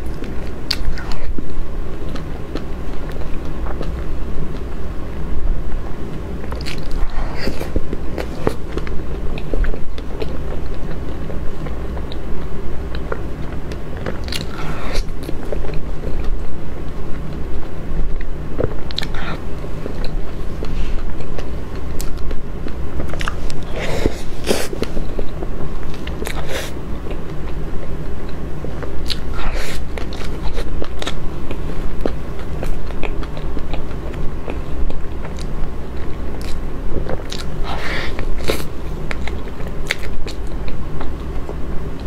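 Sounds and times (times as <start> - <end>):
low background hum: 0.0 - 42.0
wet chewing and mouth sounds: 0.0 - 42.0.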